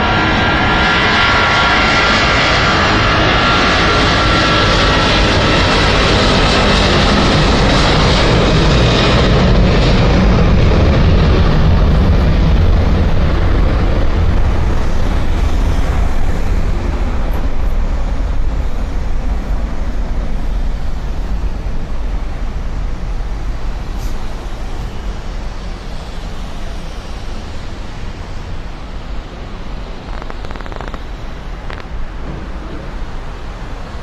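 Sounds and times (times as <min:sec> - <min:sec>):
jet engines rumbling: 0:00.0 - 0:34.0
road traffic: 0:00.0 - 0:34.0.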